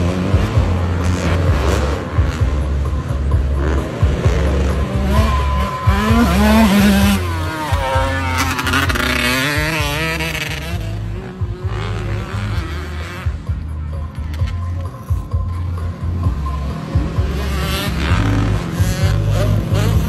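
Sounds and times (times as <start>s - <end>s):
dirt bike engine revving: 0.0s - 14.6s, 15.2s - 20.0s.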